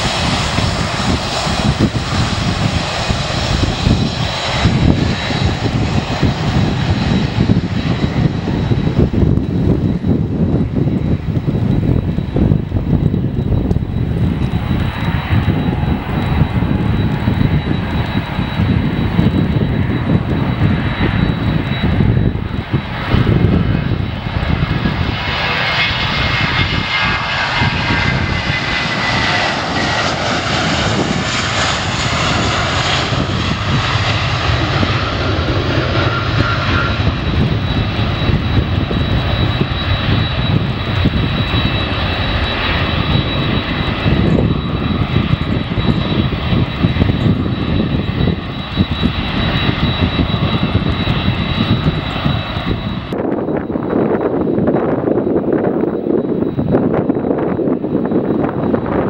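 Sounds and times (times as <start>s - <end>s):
jet engine whine: 0.0s - 59.0s
jet engines rumbling: 0.0s - 59.0s.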